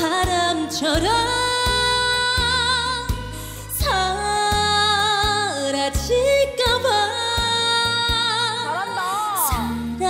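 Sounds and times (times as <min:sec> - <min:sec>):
woman singing with vibrato: 0:00.0 - 0:10.0.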